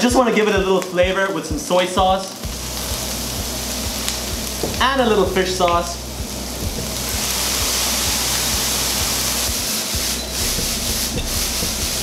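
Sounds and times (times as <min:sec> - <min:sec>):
fried rice sizzling in a pan: 0:00.0 - 0:12.0.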